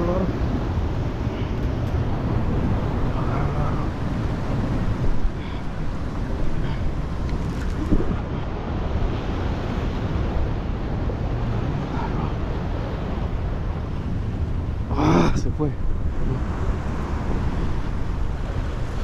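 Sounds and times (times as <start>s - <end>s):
surf washing against rocks: 0.0s - 19.0s
wind buffeting microphone: 0.0s - 19.0s.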